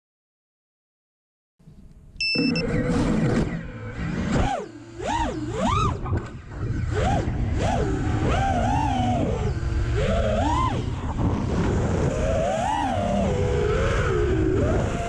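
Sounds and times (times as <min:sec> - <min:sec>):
quadcopter motors whining: 0:02.2 - 0:15.0.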